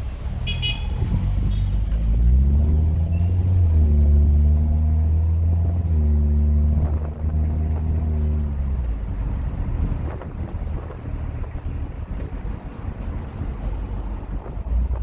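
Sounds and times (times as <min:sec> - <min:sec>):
car engine droning through exhaust: 0:00.0 - 0:15.0.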